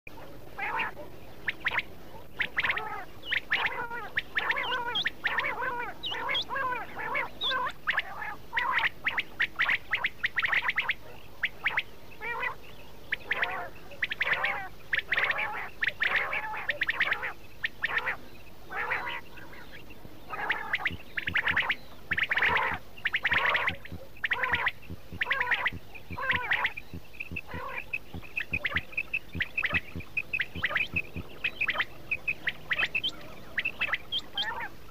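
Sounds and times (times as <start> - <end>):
quail calling: 0.1 - 34.9.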